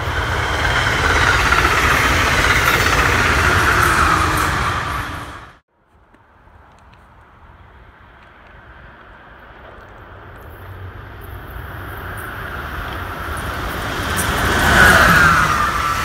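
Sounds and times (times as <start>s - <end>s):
train wheels rushing on rails: 0.0s - 5.6s, 8.1s - 16.0s.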